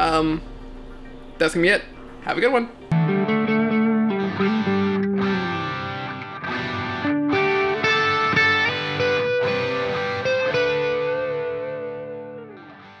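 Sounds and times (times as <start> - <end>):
distorted electric guitar notes: 0.0 - 13.0.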